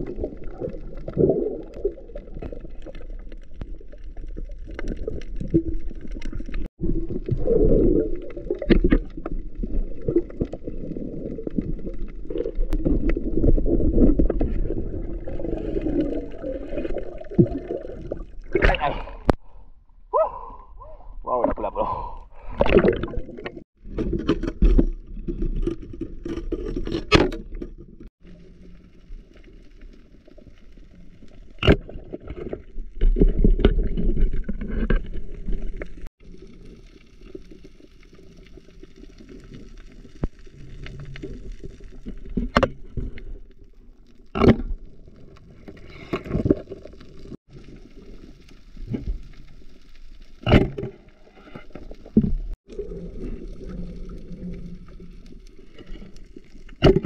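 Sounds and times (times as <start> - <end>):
faint crackle: 0.0 - 19.8, 22.2 - 57.0.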